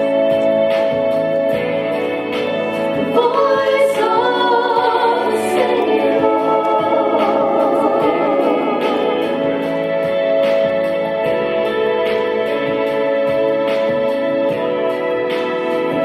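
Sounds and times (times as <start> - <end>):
instrumental gospel music: 0.0 - 16.0.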